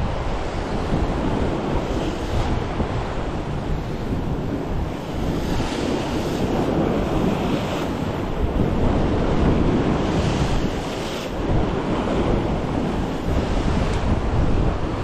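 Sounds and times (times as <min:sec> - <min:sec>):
waves washing against rocks: 0:00.0 - 0:15.0
wind rumbling on microphone: 0:00.0 - 0:15.0.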